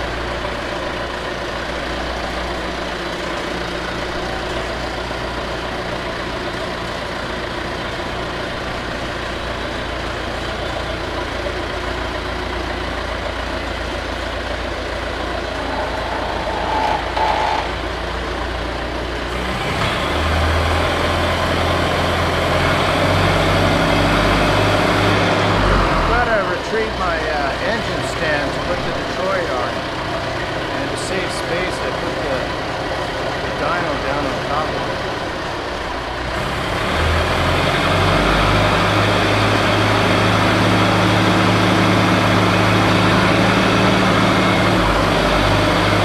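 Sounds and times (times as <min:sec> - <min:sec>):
forklift engine idling and revving: 0:00.0 - 0:46.0.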